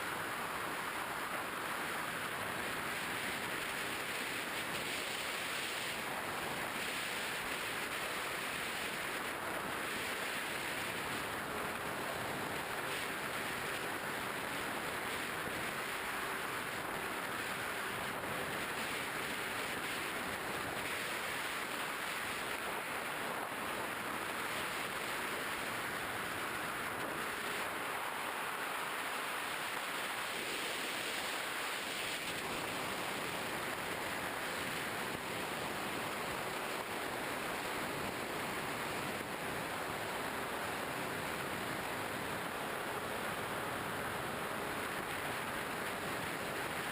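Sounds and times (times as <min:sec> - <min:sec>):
airflow rush: 0:00.0 - 0:46.8.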